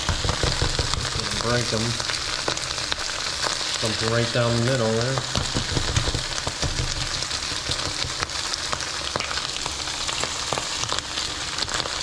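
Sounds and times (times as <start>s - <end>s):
rice sizzling with crackles: 0.0s - 12.0s.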